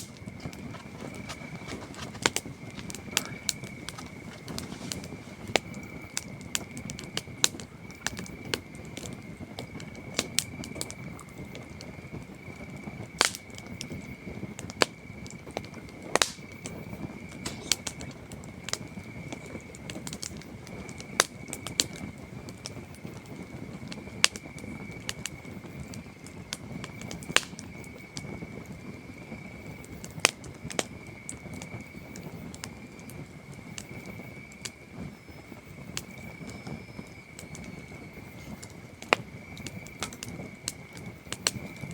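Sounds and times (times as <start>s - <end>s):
campfire crackling and popping: 0.0s - 41.9s
crickets chirring: 0.0s - 41.9s.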